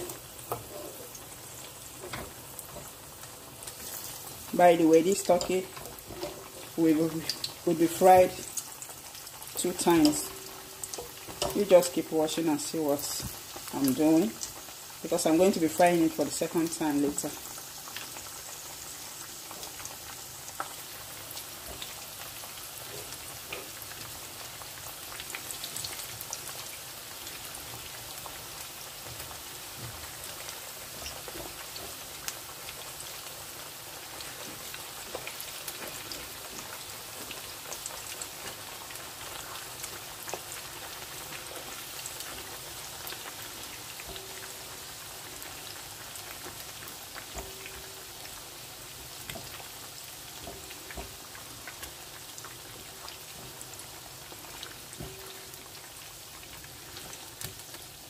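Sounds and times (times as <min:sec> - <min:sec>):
meat deep-frying in oil: 0:00.0 - 0:58.0.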